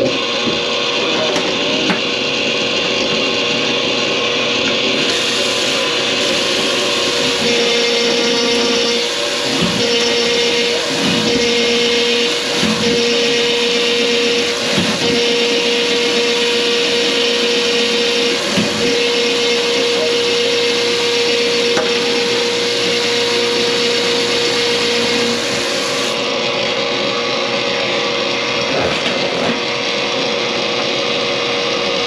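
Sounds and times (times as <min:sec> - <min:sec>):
small electric motor whirring: 0:00.0 - 0:27.1.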